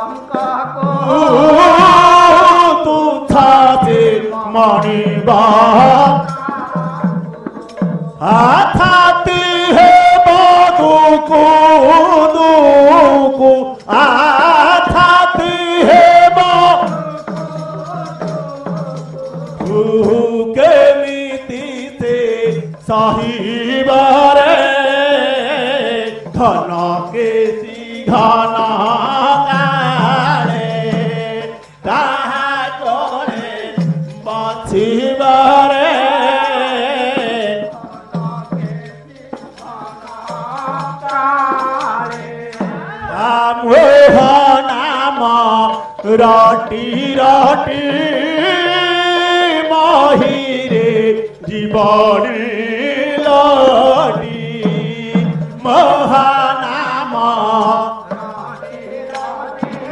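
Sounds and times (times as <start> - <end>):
devotional singing into a microphone: 0.0 - 59.9
hand drum: 0.0 - 59.9.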